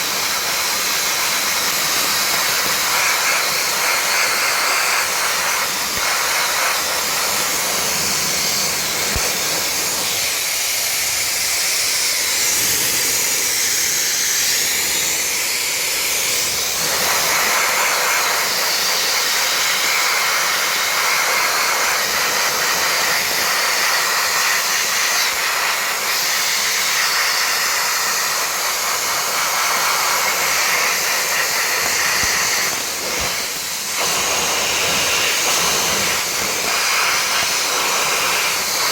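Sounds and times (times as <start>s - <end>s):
sandblaster hissing: 0.0s - 38.9s.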